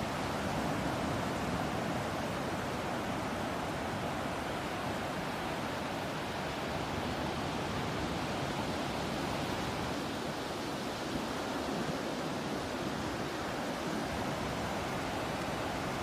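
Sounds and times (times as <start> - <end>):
ocean surf: 0.0 - 16.0.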